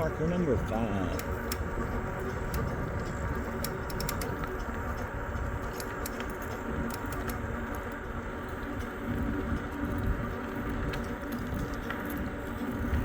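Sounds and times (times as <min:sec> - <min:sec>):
bike rattling clicks: 0:00.0 - 0:13.0
tyre and wind riding noise: 0:00.0 - 0:13.0.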